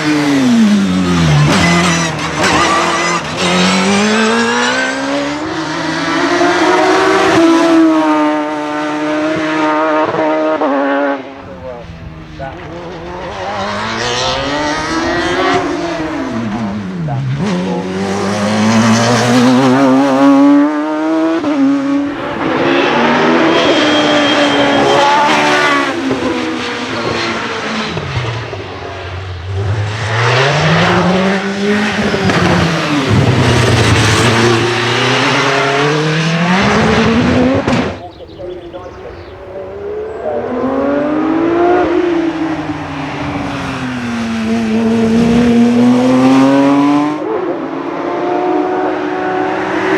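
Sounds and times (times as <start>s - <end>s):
racing car engine revving: 0.0s - 49.9s.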